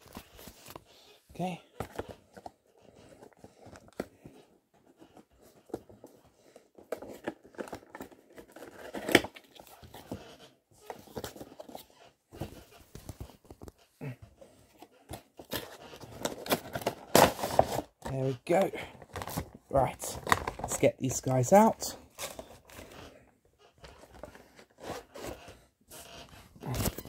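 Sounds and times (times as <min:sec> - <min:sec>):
cardboard and plastic crinkling: 0:00.0 - 0:14.0, 0:14.7 - 0:27.0.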